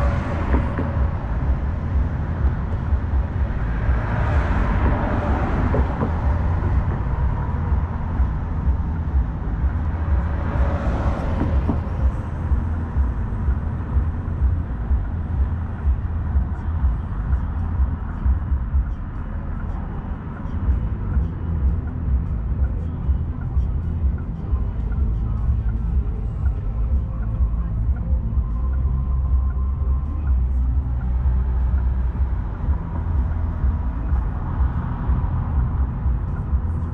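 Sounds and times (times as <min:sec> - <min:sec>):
cars passing: 0:00.0 - 0:36.9
low traffic rumble: 0:00.0 - 0:36.9.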